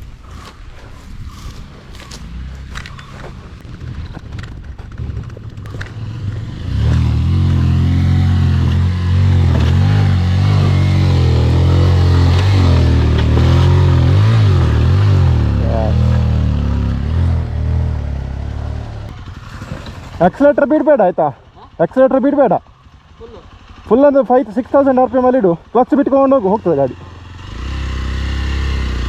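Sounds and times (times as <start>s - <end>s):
motorcycle engine revving hard: 0.0s - 29.0s.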